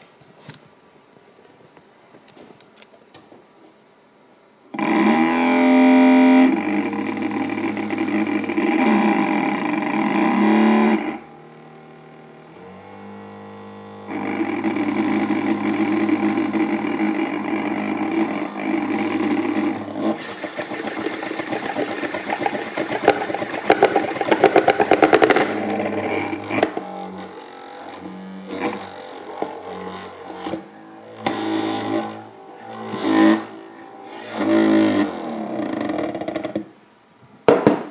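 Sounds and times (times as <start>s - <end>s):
spinning disk buzzing: 4.8s - 36.6s.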